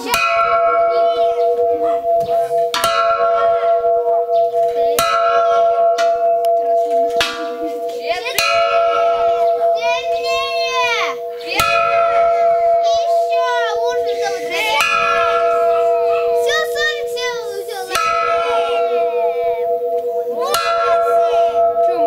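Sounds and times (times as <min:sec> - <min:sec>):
ringing metallic tone: 0:00.0 - 0:22.0.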